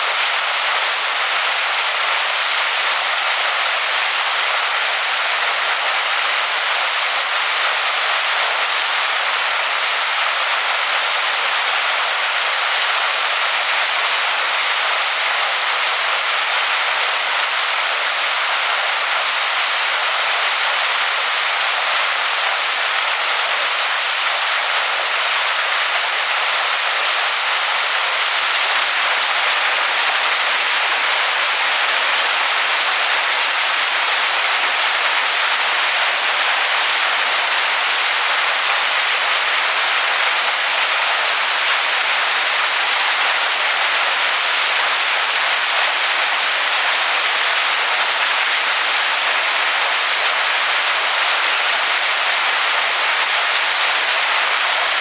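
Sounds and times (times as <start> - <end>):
waterfall splashing onto rocks: 0.0 - 55.0.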